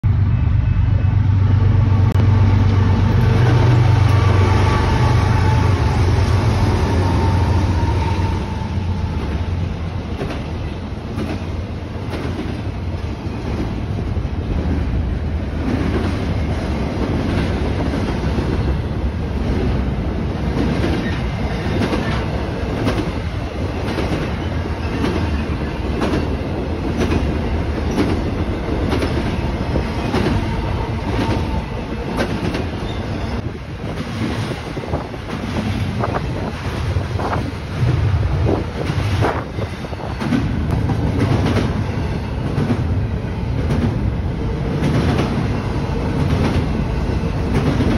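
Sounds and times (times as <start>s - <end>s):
diesel locomotive engine rumbling: 0.0s - 47.9s
train wheels on rails: 0.1s - 47.9s.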